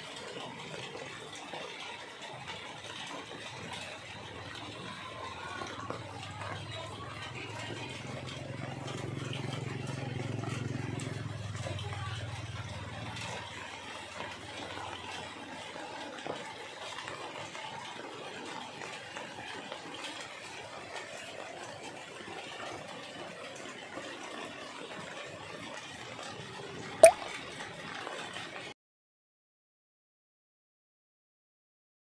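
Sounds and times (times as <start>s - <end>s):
rain falling on leaves: 0.0s - 26.8s.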